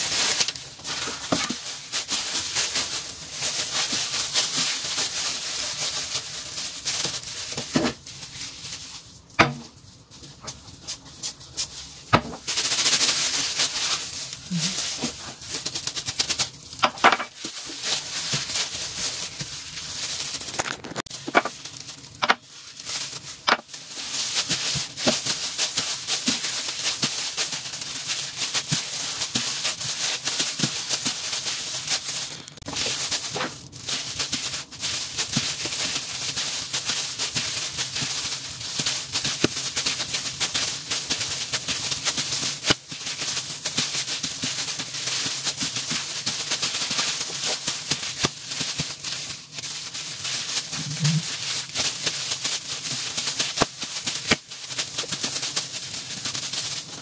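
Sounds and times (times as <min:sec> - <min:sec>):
plastic gloves crinkling: 0:00.0 - 0:57.0.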